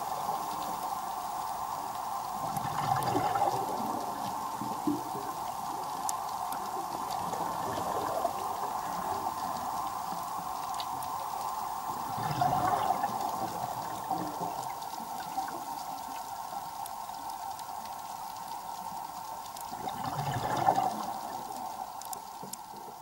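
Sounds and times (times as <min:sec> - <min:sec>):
underwater watery hiss: 0:00.0 - 0:23.0
bubbling water: 0:02.2 - 0:23.0.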